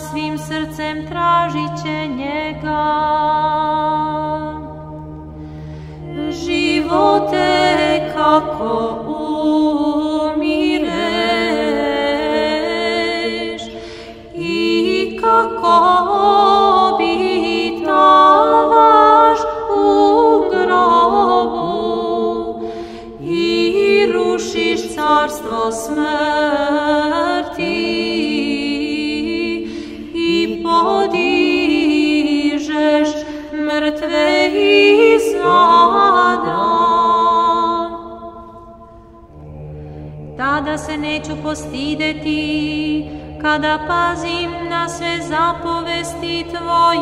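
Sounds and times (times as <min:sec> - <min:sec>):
unaccompanied choir chanting: 0:06.0 - 0:47.0.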